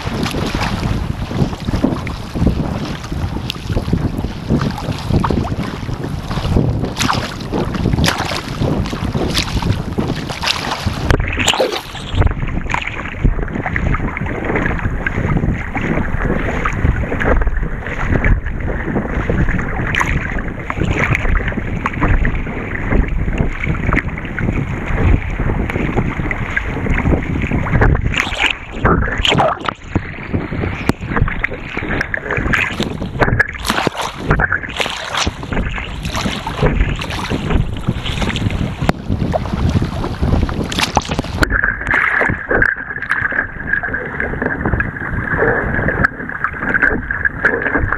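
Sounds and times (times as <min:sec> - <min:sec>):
water splashing against boat: 0:00.0 - 0:47.9
wind buffeting microphone: 0:00.0 - 0:47.9.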